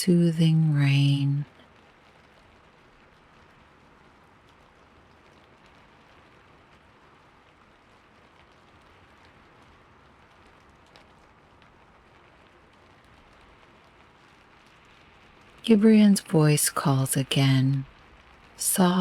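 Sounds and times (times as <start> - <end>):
soft rain: 0.0 - 19.0.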